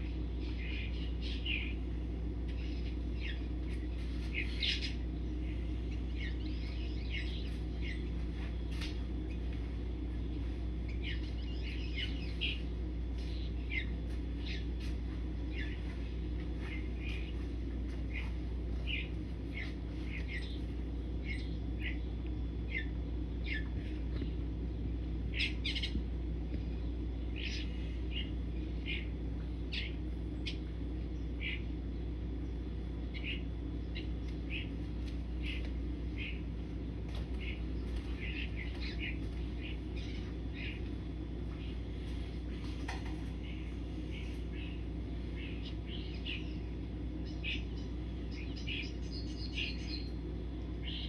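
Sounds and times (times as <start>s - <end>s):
small birds chirping: 0.0s - 51.0s
steady low hum: 0.0s - 51.0s.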